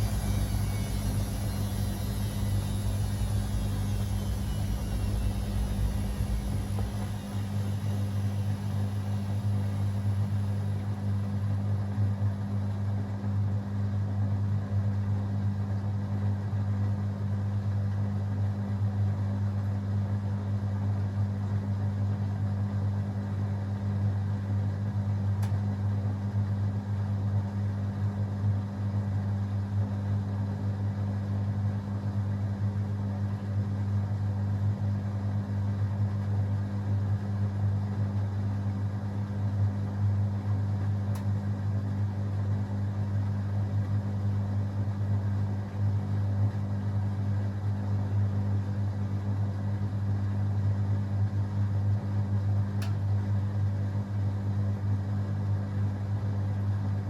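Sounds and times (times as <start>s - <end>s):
washing machine spinning: 0.0s - 21.8s, 22.6s - 57.0s.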